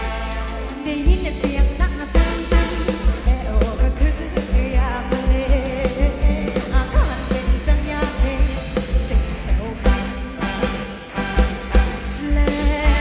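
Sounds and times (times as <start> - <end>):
live band music over a pa: 0.0 - 13.0
person singing: 0.7 - 10.7, 11.3 - 13.0.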